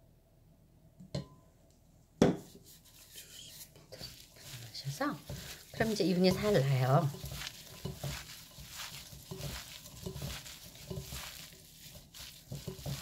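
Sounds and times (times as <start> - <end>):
wet squelching and rustling: 2.5 - 13.0.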